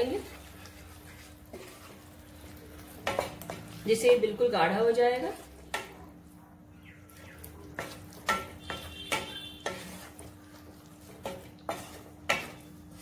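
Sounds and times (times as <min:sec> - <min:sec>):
wooden spatula stirring sauce: 0:00.0 - 0:04.2, 0:04.9 - 0:06.4, 0:07.0 - 0:13.0
spatula scraping and knocking pan: 0:00.0 - 0:06.0, 0:07.4 - 0:13.0.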